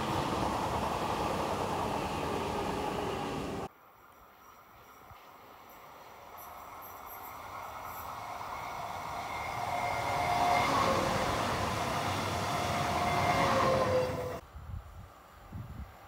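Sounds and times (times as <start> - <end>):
train traction whine: 0.0 - 3.7, 4.3 - 14.4
train wheels rushing on rail: 0.0 - 3.7, 4.8 - 14.4.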